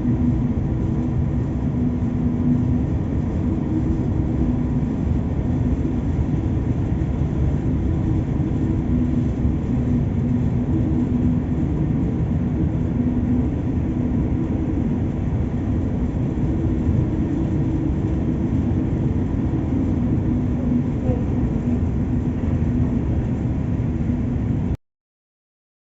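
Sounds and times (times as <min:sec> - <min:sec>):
constant droning hum: 0:00.0 - 0:24.8
ship machinery rumbling: 0:00.0 - 0:24.8.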